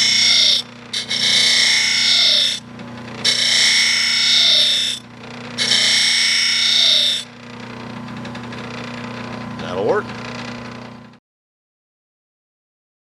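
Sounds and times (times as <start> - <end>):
knife grinding on spinning wheel: 0.0 - 11.0
motor humming: 0.0 - 11.2.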